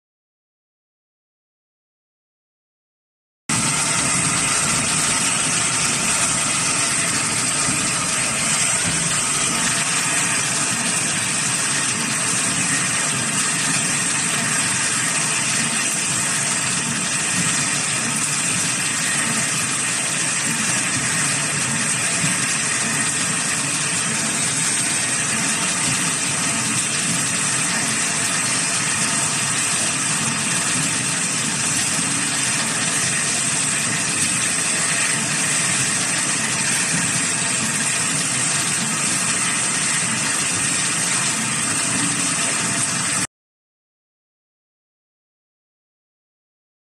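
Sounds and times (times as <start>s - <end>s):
wire cutting machine droning: 3.5s - 43.3s.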